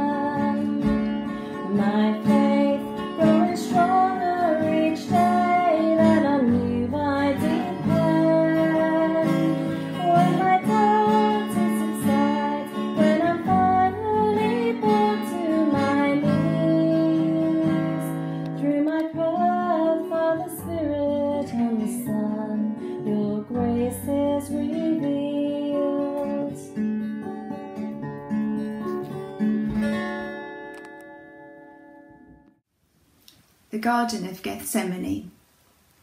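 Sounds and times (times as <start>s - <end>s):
acoustic guitar music: 0.0s - 32.7s.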